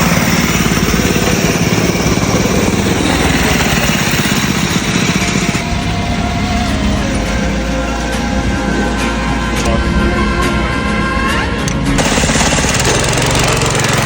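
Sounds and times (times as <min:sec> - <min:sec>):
small petrol engine running: 0:00.0 - 0:09.7, 0:11.6 - 0:14.0.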